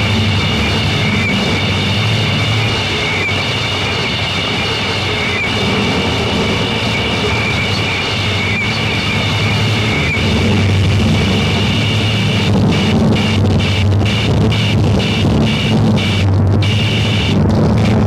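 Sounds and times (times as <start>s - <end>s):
distorted noise wall: 0.0s - 18.0s
high whining tones: 0.0s - 18.0s
low droning hum: 0.0s - 18.0s.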